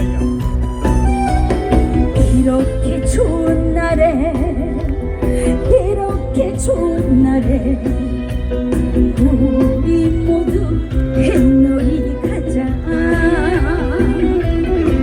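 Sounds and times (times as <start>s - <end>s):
live band playing: 0.0s - 15.0s
woman singing with vibrato: 2.0s - 15.0s.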